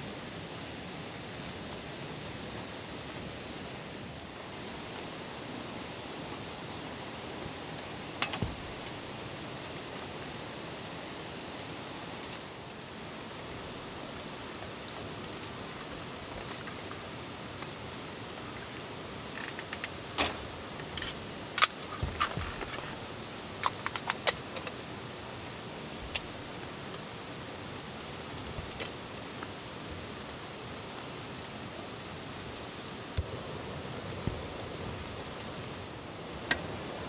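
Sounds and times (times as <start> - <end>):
steady background hiss: 0.0 - 37.0.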